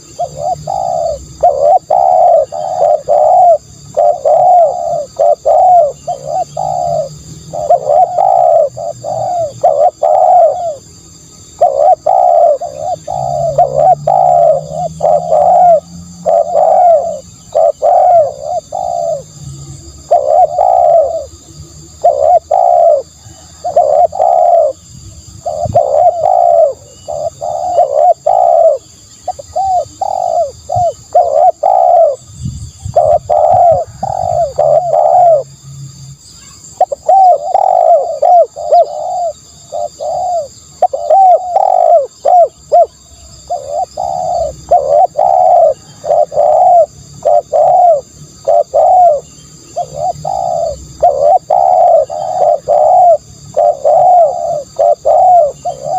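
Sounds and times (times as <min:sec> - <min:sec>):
dove cooing: 0:00.0 - 0:35.6, 0:36.4 - 0:55.9.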